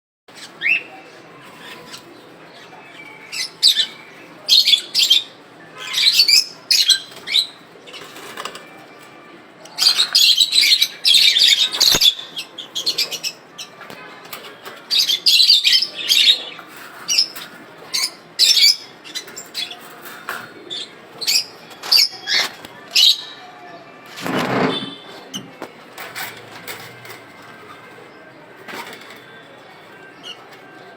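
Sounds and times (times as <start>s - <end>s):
lovebirds chirping and squawking: 0.3s - 9.0s, 9.6s - 30.9s.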